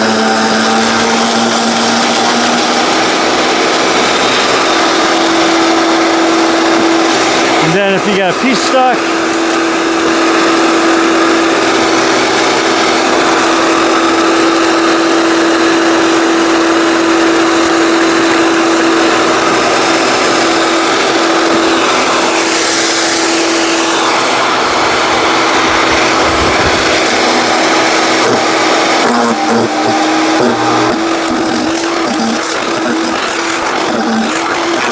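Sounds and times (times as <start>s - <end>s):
wood chipper running: 0.0s - 34.9s.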